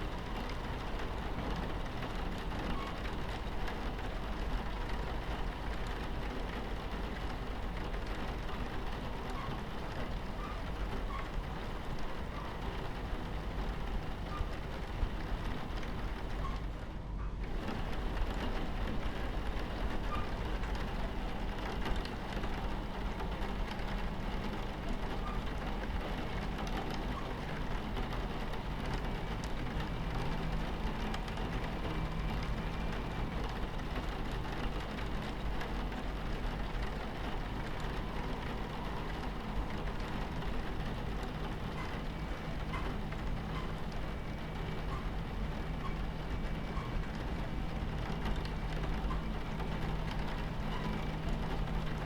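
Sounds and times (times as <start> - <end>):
rain on window: 0.0 - 52.0
train rumbling: 0.0 - 52.0.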